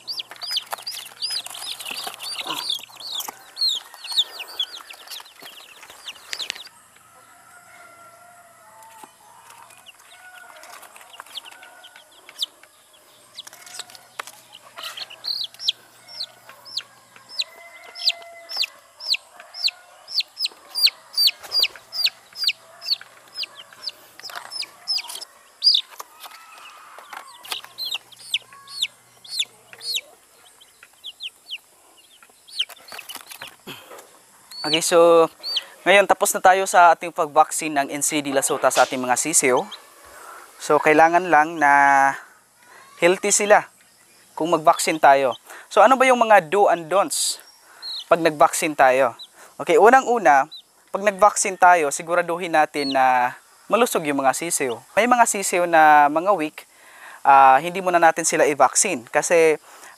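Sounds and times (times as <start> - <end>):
chicks peeping: 0.0 - 56.7.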